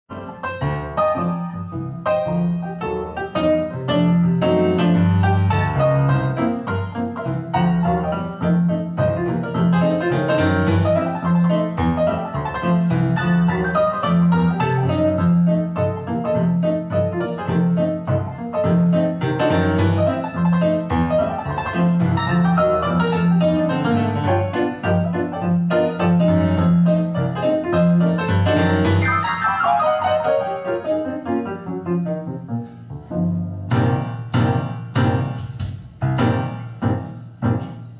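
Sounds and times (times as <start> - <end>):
piano music through speakers: 0.1 - 37.9.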